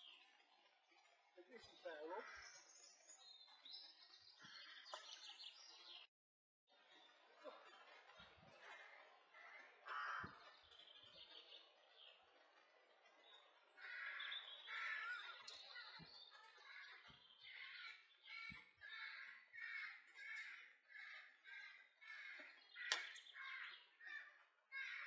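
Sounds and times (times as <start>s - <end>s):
faint birdsong: 0.0s - 6.1s, 6.7s - 25.0s.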